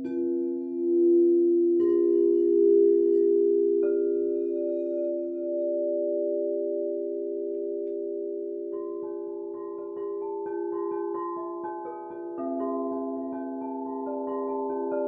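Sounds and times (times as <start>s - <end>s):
crystal singing bowls ringing: 0.0s - 15.0s.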